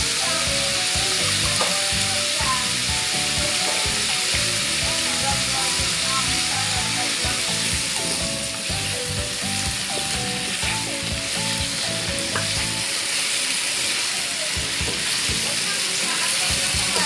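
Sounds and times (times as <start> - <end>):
potatoes sizzling in a wok: 0.0 - 17.0.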